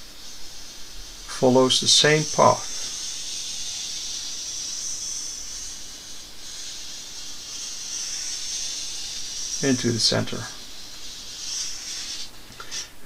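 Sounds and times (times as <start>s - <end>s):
marker scratching on paper: 1.4s - 12.9s.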